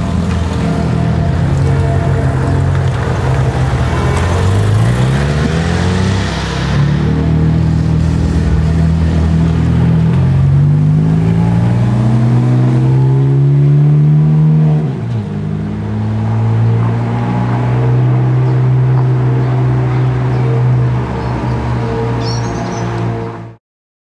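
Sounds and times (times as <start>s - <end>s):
car engine accelerating: 0.0s - 23.2s.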